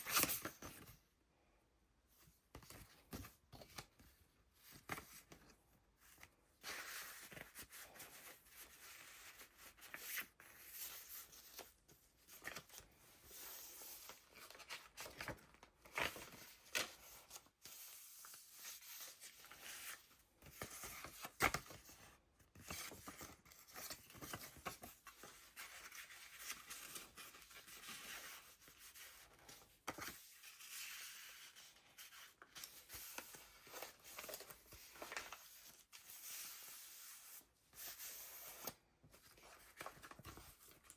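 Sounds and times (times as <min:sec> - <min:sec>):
paper rustling and crinkling: 0:02.5 - 0:40.9.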